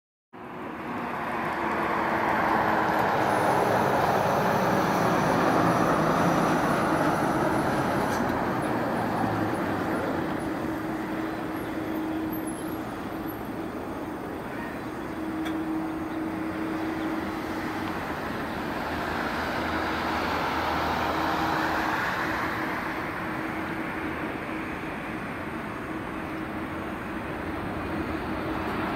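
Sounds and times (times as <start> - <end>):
jet airliner passing overhead: 0.4 - 28.9.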